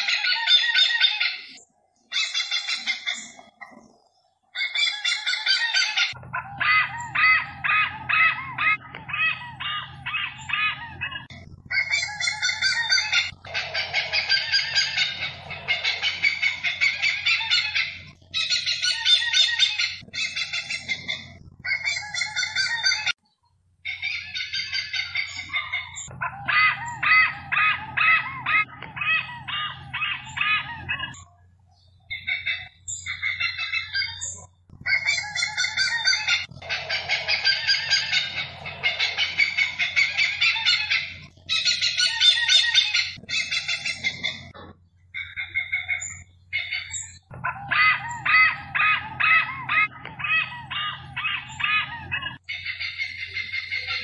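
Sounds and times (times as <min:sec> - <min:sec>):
hornbills clucking: 0:00.0 - 0:23.2, 0:23.8 - 0:54.0.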